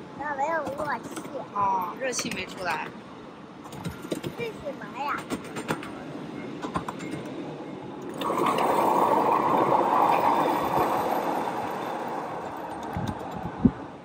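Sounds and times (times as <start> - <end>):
train wheels clicking on track: 0.4 - 2.9, 3.6 - 14.0.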